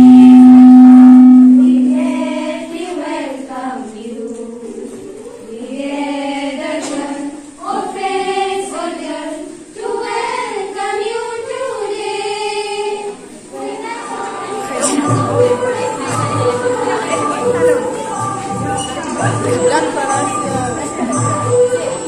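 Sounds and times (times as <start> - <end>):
women's choir singing: 0.0 - 22.0.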